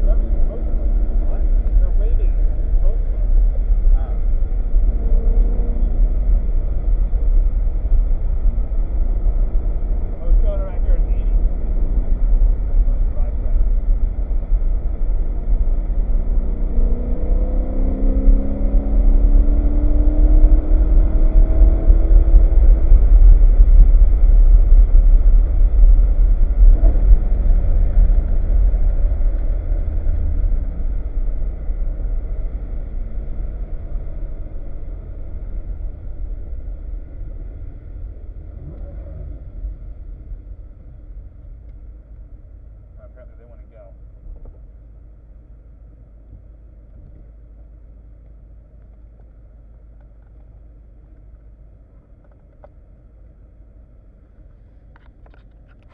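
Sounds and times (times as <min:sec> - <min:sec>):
car engine revving: 0:00.0 - 0:45.3.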